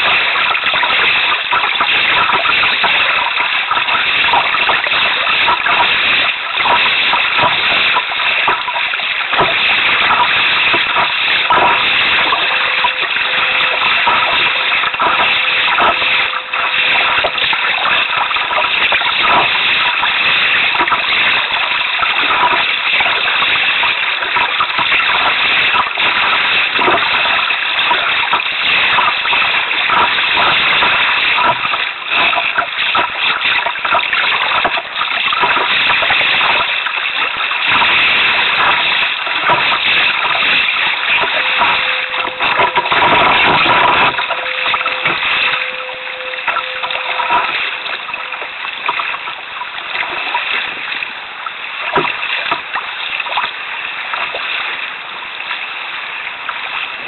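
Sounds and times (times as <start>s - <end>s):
water splashing against canoe hull: 0.0s - 55.8s.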